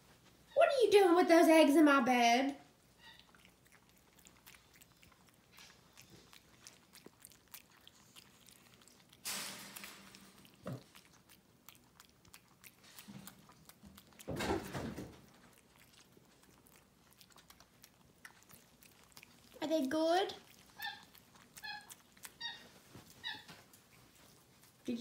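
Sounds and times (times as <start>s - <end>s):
monkey chewing: 2.8s - 25.0s.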